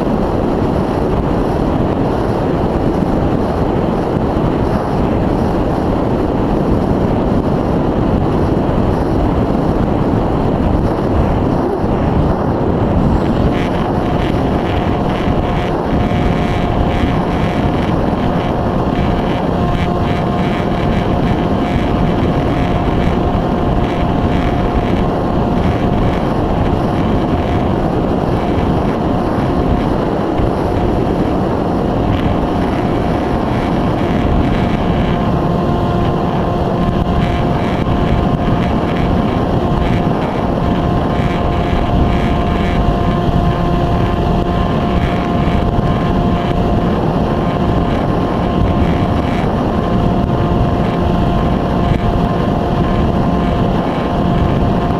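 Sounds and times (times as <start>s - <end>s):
electric motor whining: 0.0s - 54.9s
wind on microphone: 0.0s - 54.9s.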